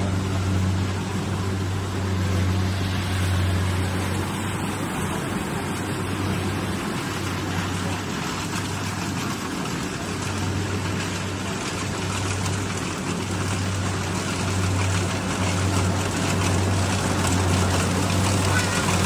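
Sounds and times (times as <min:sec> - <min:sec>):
combine harvester engine droning: 0:00.0 - 0:19.0.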